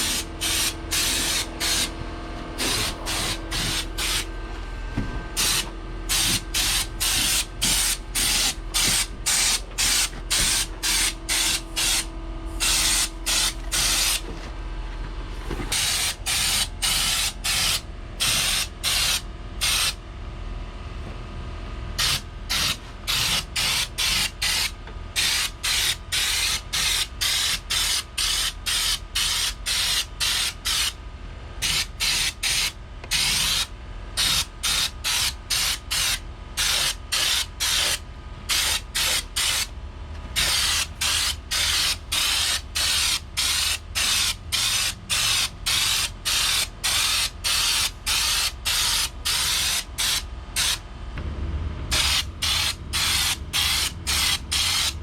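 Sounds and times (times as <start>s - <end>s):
spray gun spraying in bursts: 0.0s - 1.9s, 2.6s - 4.3s, 5.4s - 14.2s, 15.7s - 20.0s, 22.0s - 31.0s, 31.6s - 39.7s, 40.4s - 50.8s, 51.9s - 55.0s.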